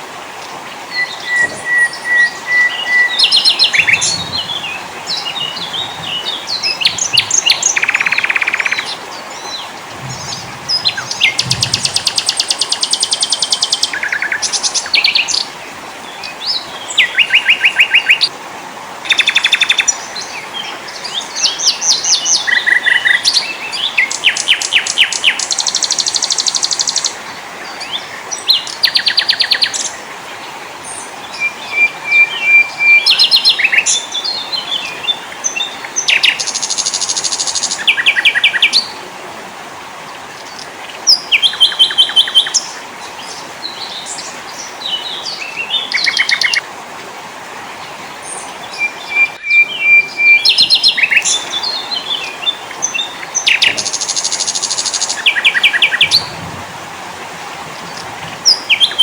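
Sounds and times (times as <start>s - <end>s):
songbirds singing: 0.0s - 18.4s, 19.0s - 46.7s, 47.6s - 59.0s.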